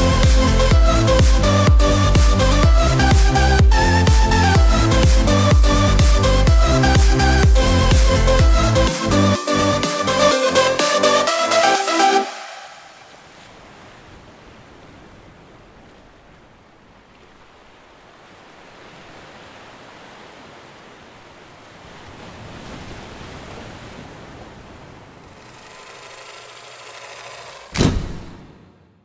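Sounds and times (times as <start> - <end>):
ocean surf washing ashore: 0.0 - 28.6.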